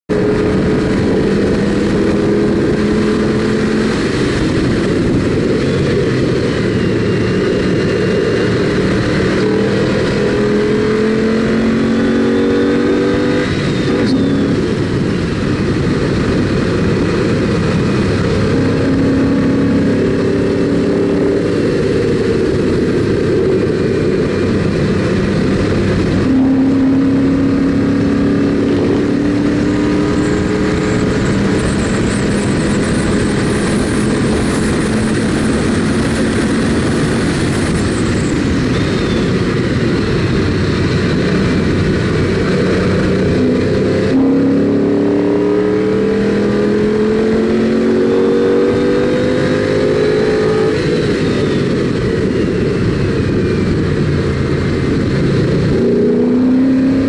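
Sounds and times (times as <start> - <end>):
car engine revving hard: 0.1 - 57.0.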